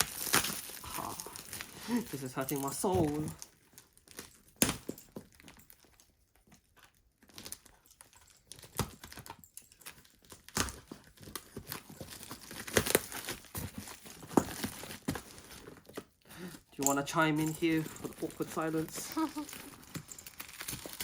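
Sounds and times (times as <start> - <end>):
packaging crinkling and tearing: 0.0 - 21.0.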